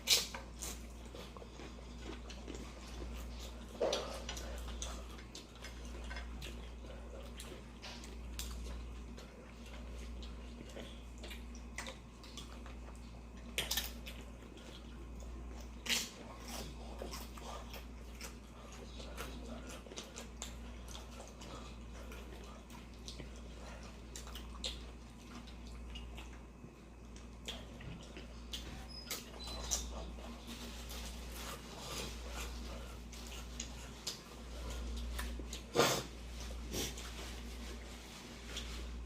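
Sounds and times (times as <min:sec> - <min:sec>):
chewing and crunching chips: 0:00.0 - 0:39.0
steady low hum: 0:00.0 - 0:39.0.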